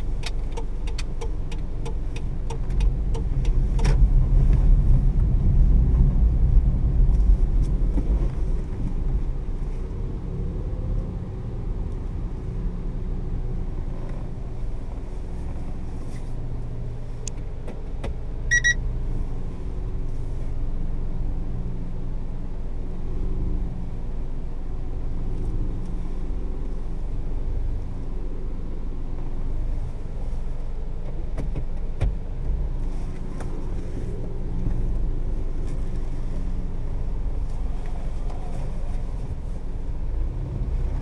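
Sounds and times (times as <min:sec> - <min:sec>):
car engine low hum: 0:00.0 - 0:41.0
road rumble: 0:00.0 - 0:41.0.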